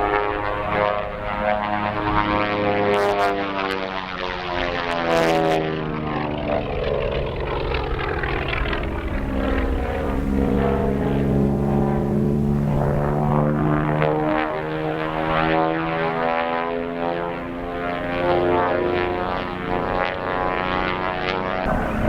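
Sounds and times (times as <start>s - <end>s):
propeller airplane engine droning: 0.0s - 22.0s.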